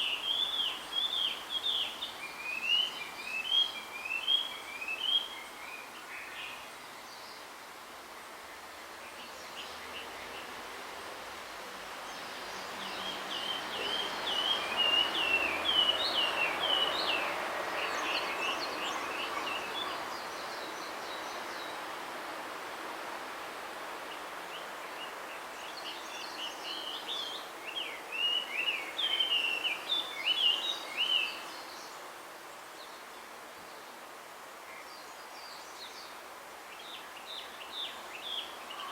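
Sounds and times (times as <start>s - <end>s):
background hiss: 0.0s - 38.9s.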